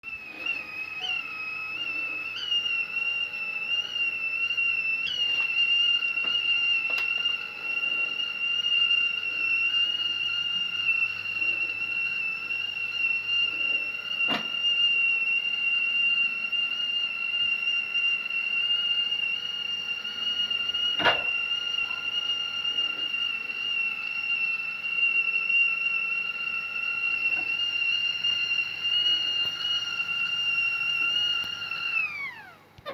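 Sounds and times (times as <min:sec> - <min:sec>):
kettle whistling: 0:00.0 - 0:32.9.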